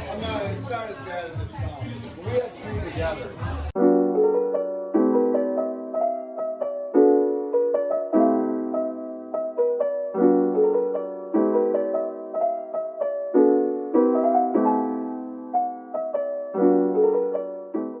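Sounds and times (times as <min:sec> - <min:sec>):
piano chords and melody: 0:00.0 - 0:18.0.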